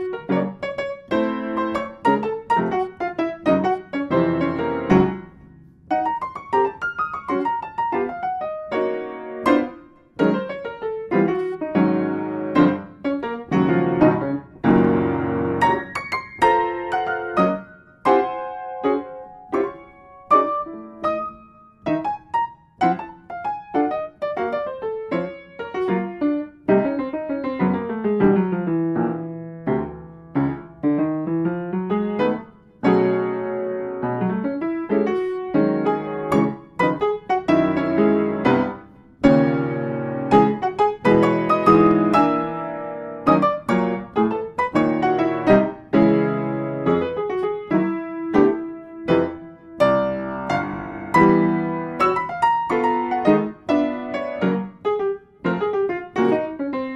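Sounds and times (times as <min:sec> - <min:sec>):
solo piano music: 0:00.0 - 0:56.9.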